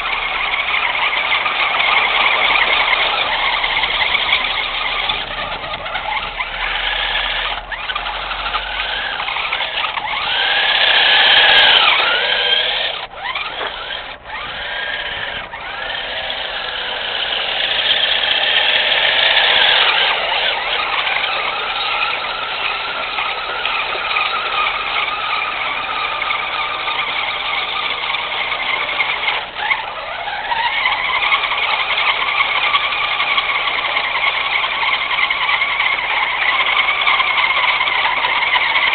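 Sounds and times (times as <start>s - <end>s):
toy truck electric motor whining: 0.0s - 38.9s.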